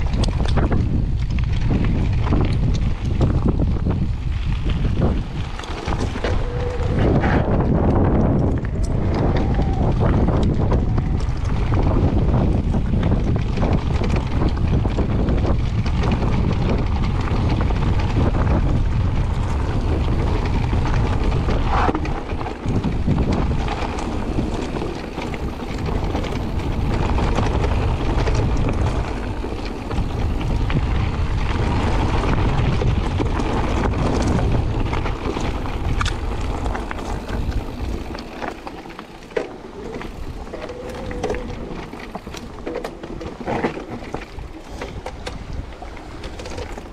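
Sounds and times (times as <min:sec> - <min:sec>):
bike knocks and rattles: 0:00.0 - 0:46.9
bike tyres rolling on gravel: 0:00.0 - 0:46.9
wind buffeting microphone: 0:00.0 - 0:46.9.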